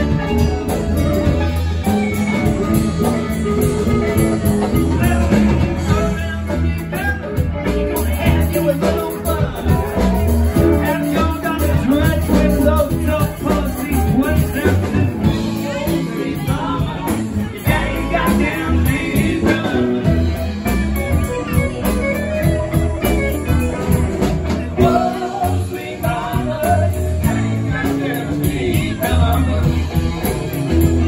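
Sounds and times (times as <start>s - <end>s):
live band playing: 0.0s - 31.0s
person singing: 3.8s - 31.0s.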